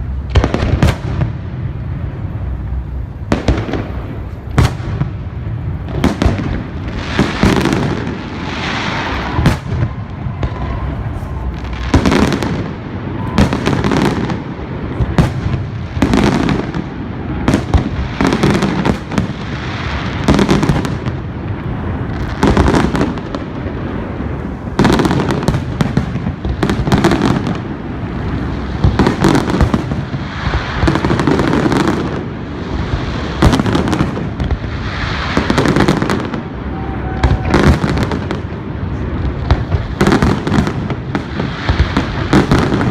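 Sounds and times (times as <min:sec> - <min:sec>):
fireworks rumbling and crackling: 0:00.0 - 0:42.9.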